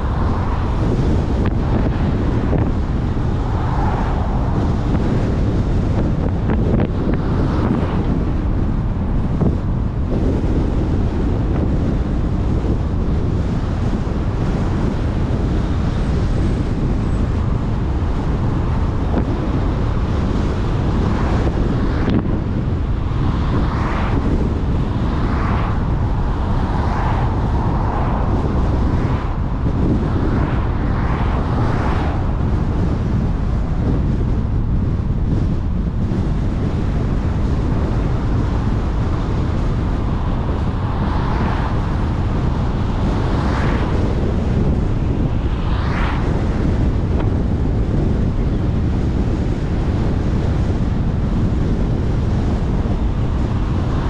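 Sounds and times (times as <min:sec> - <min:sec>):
car tyres and engine rumble: 0:00.0 - 0:54.0
wind noise on microphone: 0:00.0 - 0:54.0.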